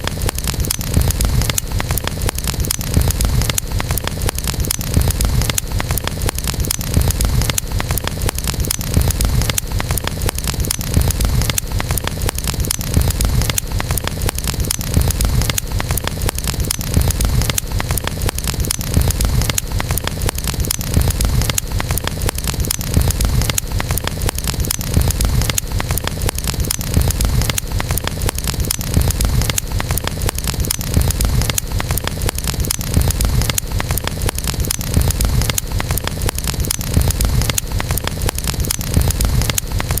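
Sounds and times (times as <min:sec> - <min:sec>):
campfire crackling: 0:00.0 - 0:40.0
low rumble of fire: 0:00.0 - 0:40.0.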